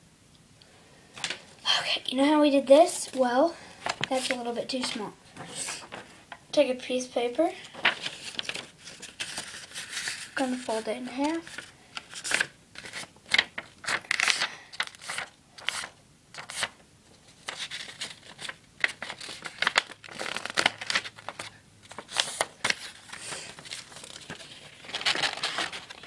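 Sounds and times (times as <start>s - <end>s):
paper rustling and crinkling: 3.1s - 6.4s, 7.4s - 26.0s.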